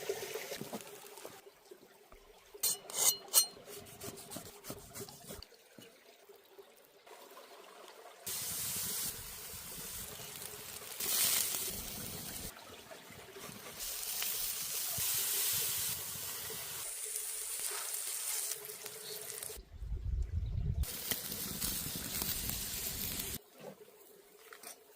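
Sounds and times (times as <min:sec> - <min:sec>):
hissing trickling cooking sounds: 0:02.8 - 0:19.6, 0:20.8 - 0:24.7.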